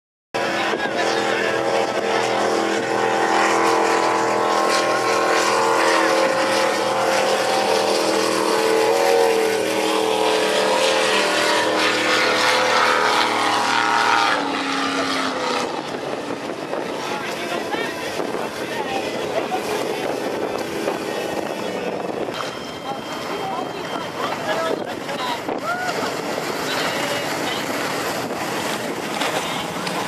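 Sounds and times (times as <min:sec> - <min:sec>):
boat engine running at high revs: 0:00.4 - 0:30.0.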